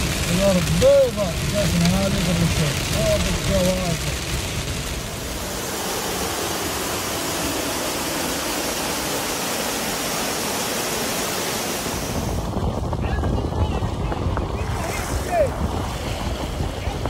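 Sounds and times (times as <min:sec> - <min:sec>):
waterfall rushing into a pool: 0:00.0 - 0:17.0.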